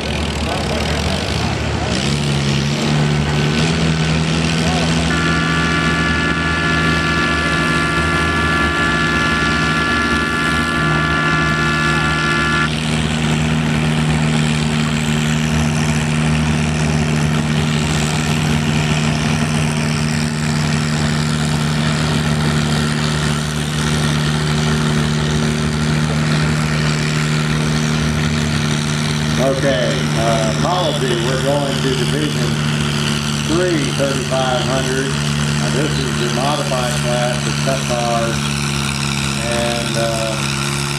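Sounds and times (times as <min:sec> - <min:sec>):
engine idling: 0:00.0 - 0:40.9
high steady whine: 0:02.6 - 0:40.9.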